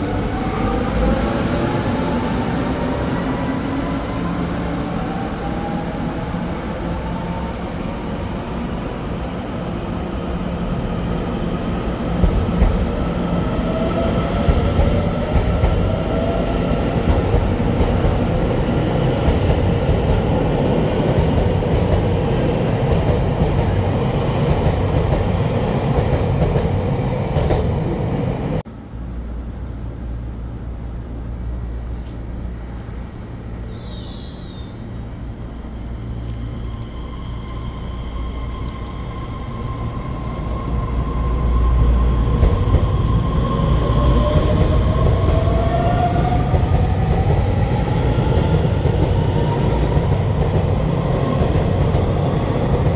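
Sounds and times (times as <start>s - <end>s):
train rumble with rising whine: 0.0s - 52.9s.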